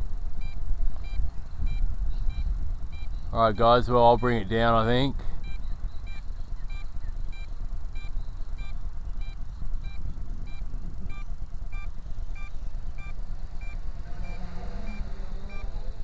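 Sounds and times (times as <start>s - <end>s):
steady low rumble: 0.0s - 16.0s
short electronic beeps: 0.4s - 4.8s, 5.4s - 15.8s.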